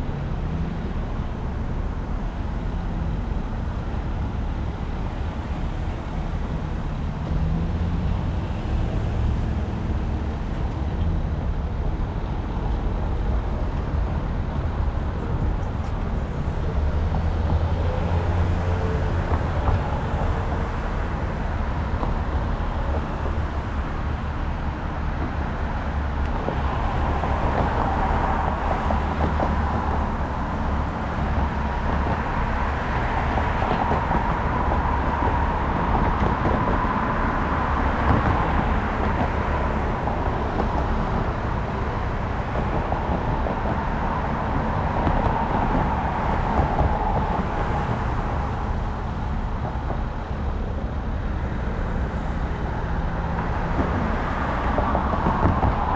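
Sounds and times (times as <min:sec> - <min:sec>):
car road and engine rumble: 0:00.0 - 0:55.9.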